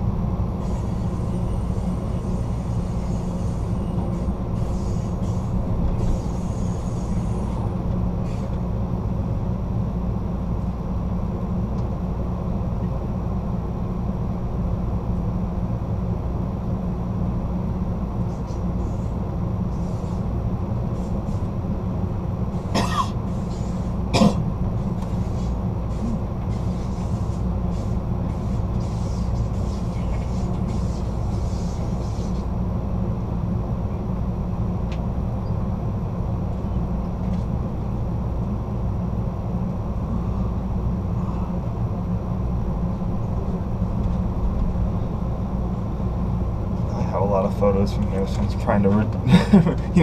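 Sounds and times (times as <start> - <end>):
train car rumbling on track: 0.0 - 50.0.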